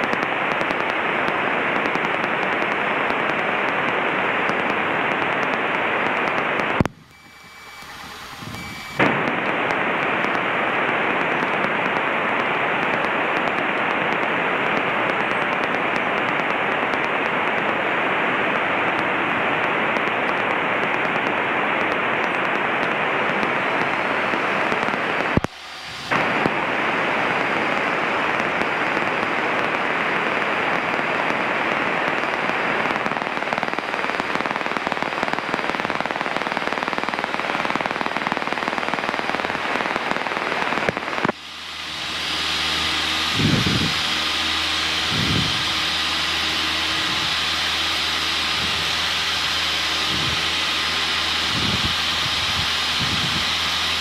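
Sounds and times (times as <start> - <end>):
crackling radio static: 0.0 - 54.0.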